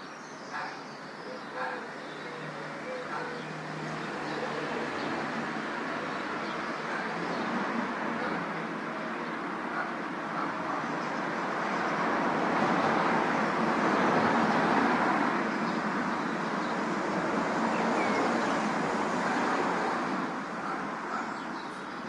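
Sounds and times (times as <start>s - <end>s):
city traffic noise: 0.0s - 22.0s.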